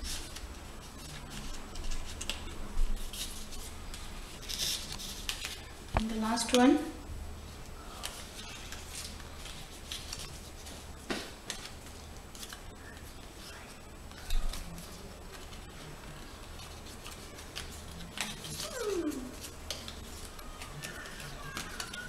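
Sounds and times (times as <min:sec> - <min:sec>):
paper card rustling: 0:00.0 - 0:05.8, 0:07.6 - 0:22.0.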